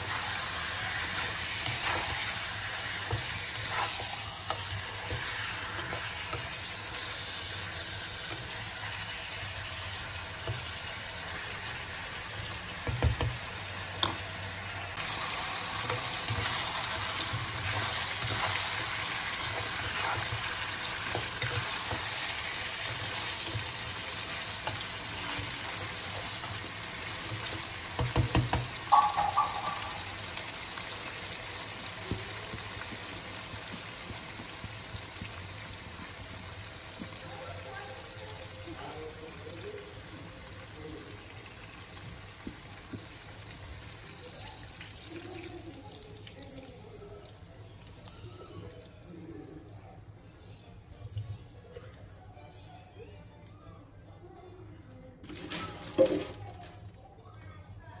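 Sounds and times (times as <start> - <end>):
chicken sizzling in oil: 0.0 - 49.8.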